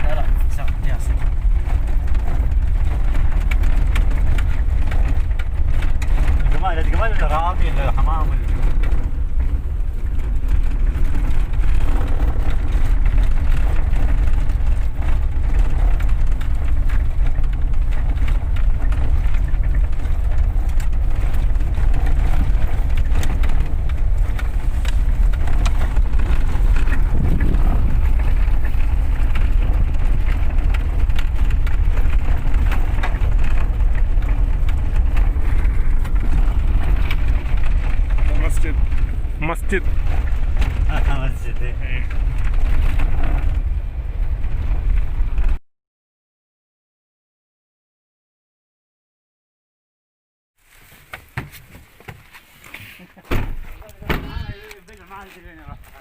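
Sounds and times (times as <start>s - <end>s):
car engine rumble: 0.0s - 45.6s, 50.6s - 56.0s
road noise: 0.0s - 45.6s, 50.6s - 56.0s.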